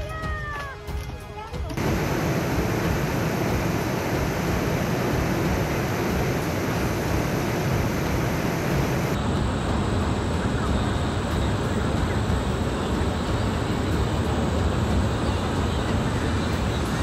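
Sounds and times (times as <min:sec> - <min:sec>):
floodwater and rain rushing: 0:01.8 - 0:16.0.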